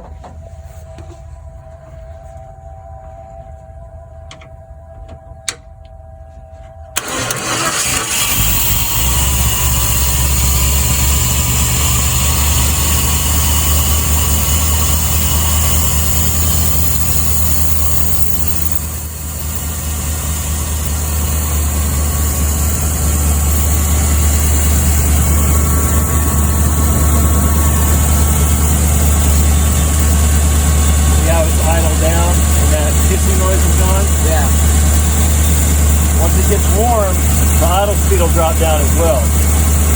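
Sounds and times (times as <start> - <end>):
truck engine idling: 7.0 - 39.9.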